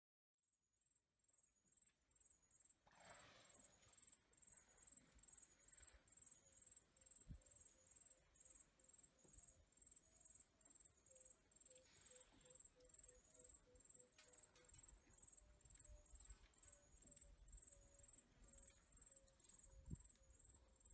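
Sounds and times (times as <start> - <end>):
faint insect chirping: 0.9 - 20.9.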